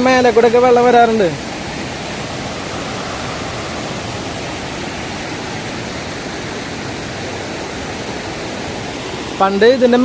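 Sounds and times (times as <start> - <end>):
waterfall pouring over rocks: 0.0 - 10.0.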